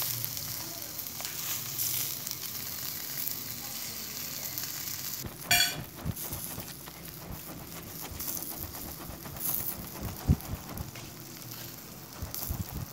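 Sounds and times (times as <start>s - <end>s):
meat sizzling on grill: 0.0s - 12.9s.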